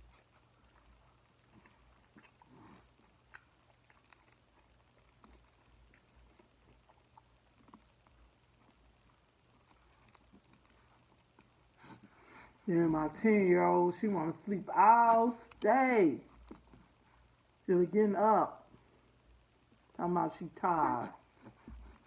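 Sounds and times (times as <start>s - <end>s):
person chewing food: 0.0s - 17.7s, 20.7s - 22.0s.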